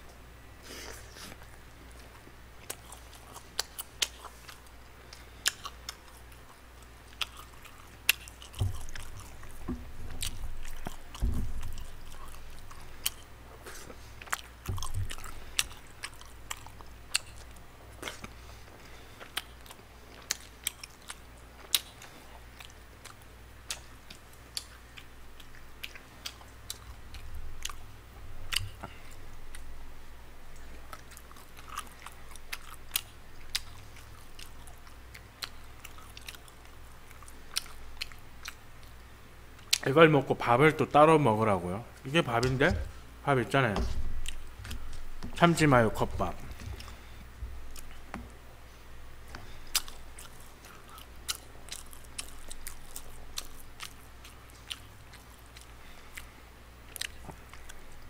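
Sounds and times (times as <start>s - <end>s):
chewing with wet mouth smacks: 1.3s - 27.9s, 30.5s - 39.9s, 46.0s - 48.3s, 49.2s - 58.0s.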